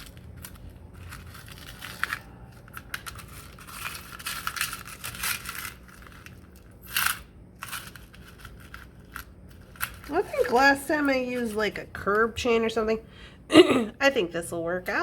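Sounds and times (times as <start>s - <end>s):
rustling and crinkling: 0.0s - 12.4s.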